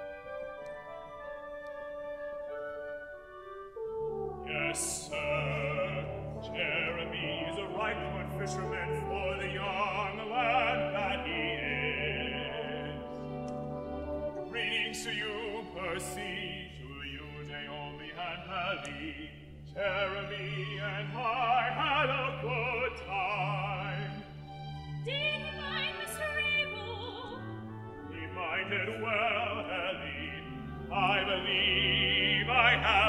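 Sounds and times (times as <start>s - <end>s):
instrumental accompaniment: 0.0s - 33.0s
operatic singing: 4.2s - 33.0s.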